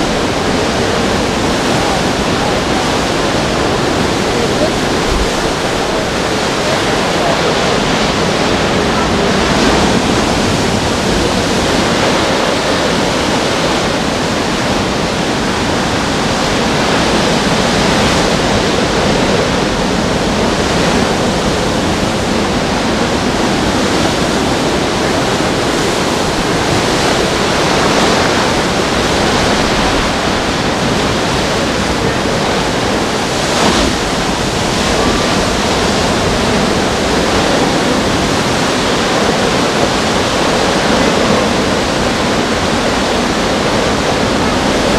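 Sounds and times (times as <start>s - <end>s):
strong wind and rain rushing: 0.0s - 44.9s.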